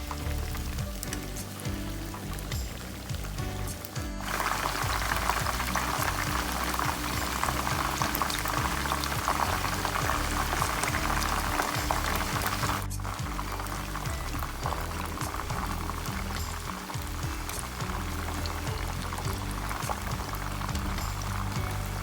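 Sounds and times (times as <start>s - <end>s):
background music: 0.0s - 22.0s
chicken frying in hot oil: 0.0s - 22.0s.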